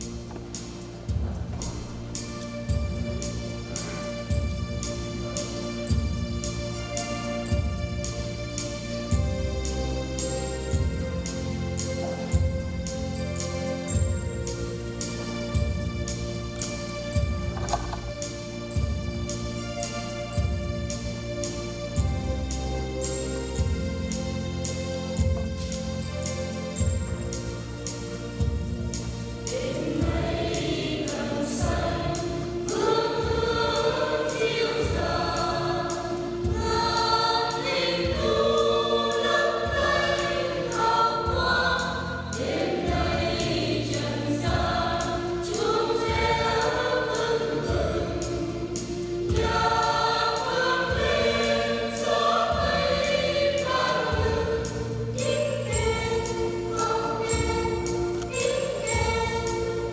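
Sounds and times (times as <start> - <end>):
choir singing a hymn: 0.0 - 59.9
musical accompaniment with low beat: 0.0 - 59.9.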